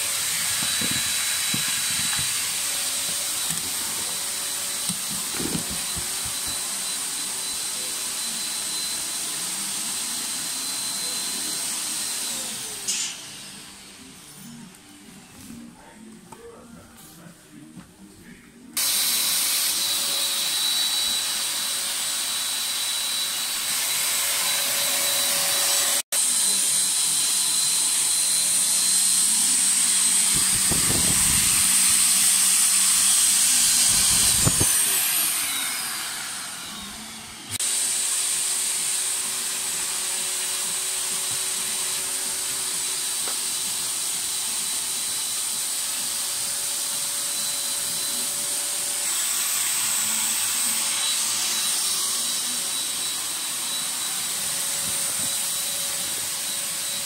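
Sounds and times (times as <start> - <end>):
electric air pump running: 0.0 - 14.5, 18.8 - 57.0.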